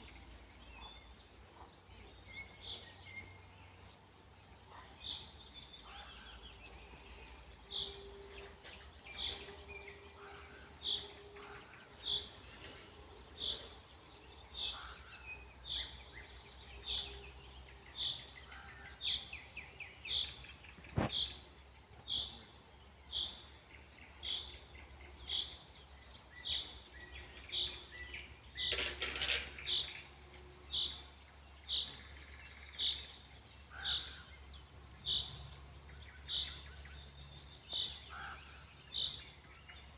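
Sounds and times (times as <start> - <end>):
birds chirping faintly: 0.0 - 39.9.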